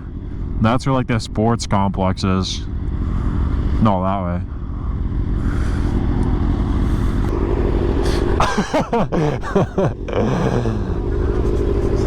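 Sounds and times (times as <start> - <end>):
motorcycle engine revving: 0.0 - 12.0
motorcycle engine running: 0.0 - 12.0.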